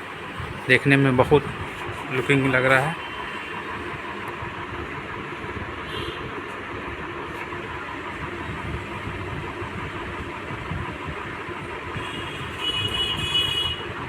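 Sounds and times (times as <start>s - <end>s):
steady rumbling: 0.0s - 14.0s.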